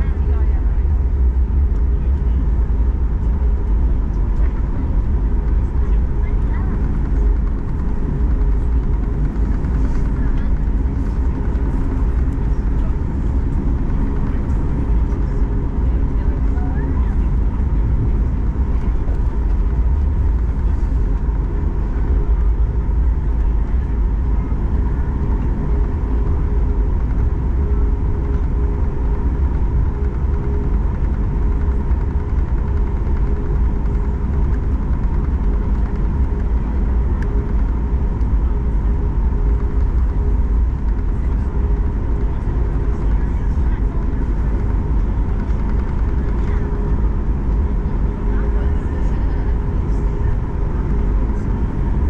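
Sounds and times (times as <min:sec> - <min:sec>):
airplane cabin rumble: 0:00.0 - 0:52.0
two-tone engine hum: 0:00.0 - 0:52.0.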